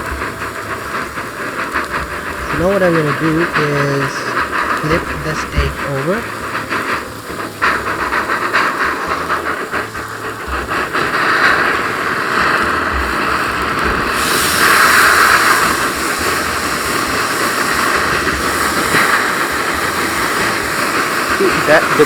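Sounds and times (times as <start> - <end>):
steak sizzling in a pan: 0.0 - 22.0.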